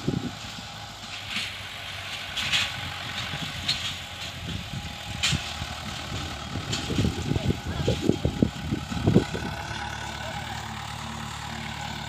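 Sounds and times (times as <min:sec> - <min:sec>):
tractor engine under load: 0:00.0 - 0:12.0.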